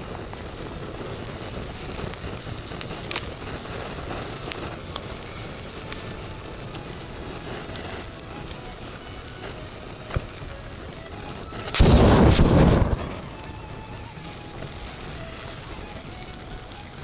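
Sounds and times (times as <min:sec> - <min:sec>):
fire crackling: 0:00.0 - 0:17.0
lighter bursting and venting gas: 0:00.0 - 0:17.0.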